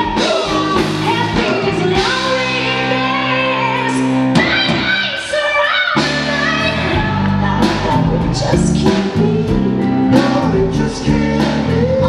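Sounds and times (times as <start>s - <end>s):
drums: 0.0s - 12.0s
electric guitar: 0.0s - 12.0s
woman singing: 0.0s - 12.0s.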